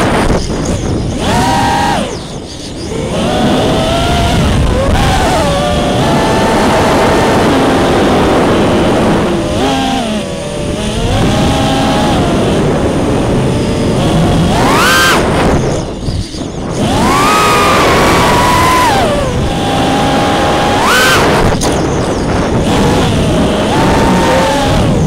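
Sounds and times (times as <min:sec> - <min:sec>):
quadcopter motors whining: 0:00.0 - 0:25.0.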